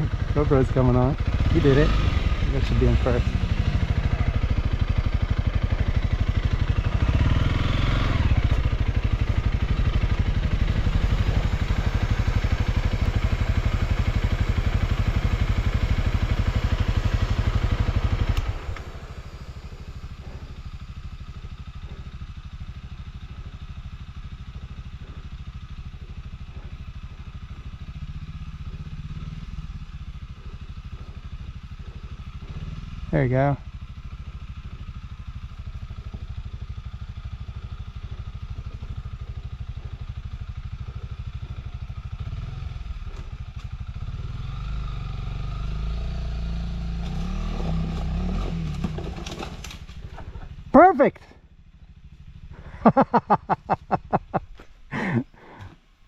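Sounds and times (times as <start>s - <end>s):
motorcycle engine revving: 0.0s - 55.8s.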